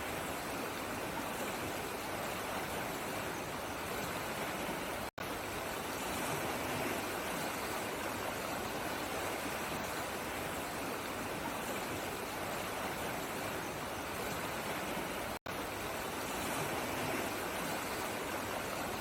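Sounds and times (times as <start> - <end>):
water rushing: 0.0 - 19.0.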